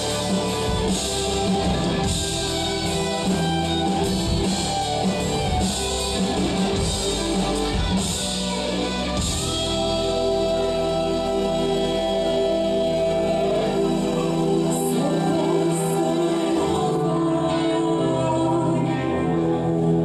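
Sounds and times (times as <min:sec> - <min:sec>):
drum kit: 0:00.0 - 0:18.0
electric guitars: 0:00.0 - 0:20.0
keyboard: 0:00.0 - 0:20.0.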